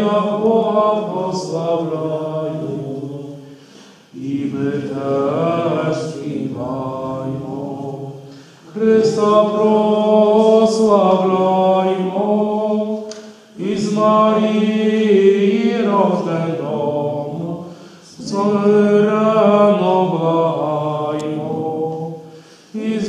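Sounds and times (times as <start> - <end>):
choir singing unaccompanied: 0.0 - 23.0.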